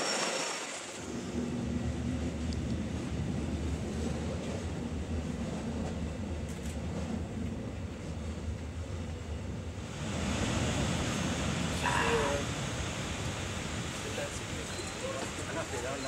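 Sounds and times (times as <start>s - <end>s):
train rumbling inside passenger car: 0.9s - 16.0s.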